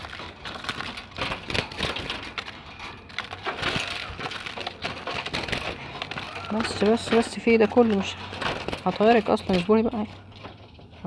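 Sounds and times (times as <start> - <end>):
dove fluttering and struggling: 0.0 - 11.0.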